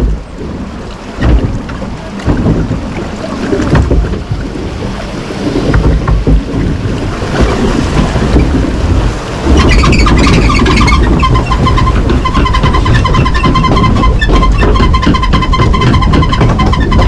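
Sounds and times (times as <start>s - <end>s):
log flume ride rushing: 0.0s - 17.0s.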